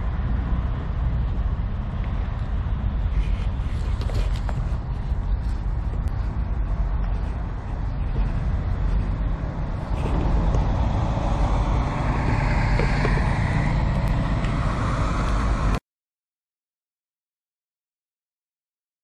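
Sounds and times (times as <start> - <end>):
diesel truck engine rumbling: 0.0 - 15.8.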